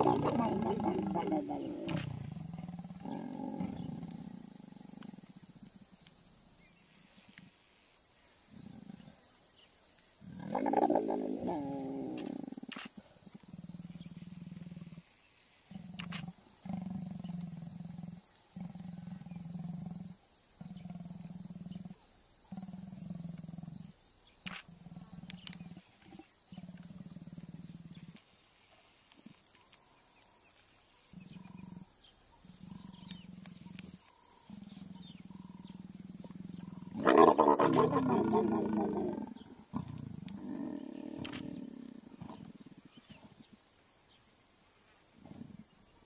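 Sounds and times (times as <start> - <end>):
leopards growling and snarling: 0.0 - 44.2, 44.9 - 46.0.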